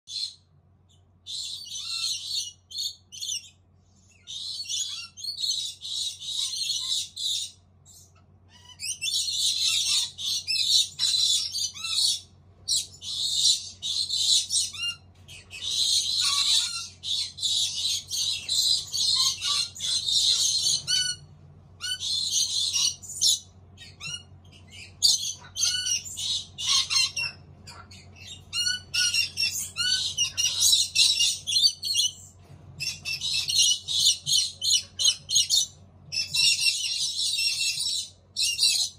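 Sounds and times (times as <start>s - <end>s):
parrot chicks rasping calls: 0.1s - 38.9s.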